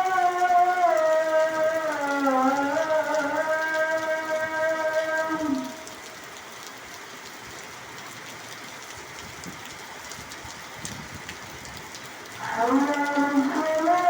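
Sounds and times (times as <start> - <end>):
rain falling: 0.0 - 14.0
scattered drips: 0.1 - 14.0.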